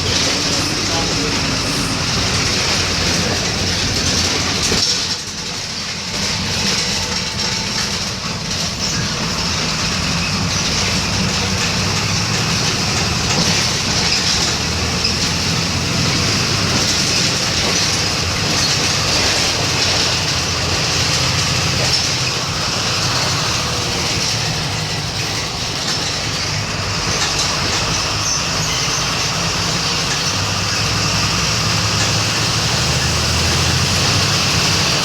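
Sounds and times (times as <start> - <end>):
bus engine drone: 0.0 - 35.0
road noise: 0.0 - 35.0
rattle: 2.0 - 30.9.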